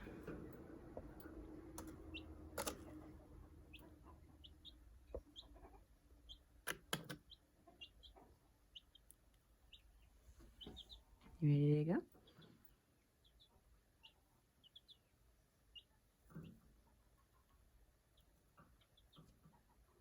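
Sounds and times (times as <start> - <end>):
chick peeping softly: 0.0 - 20.0.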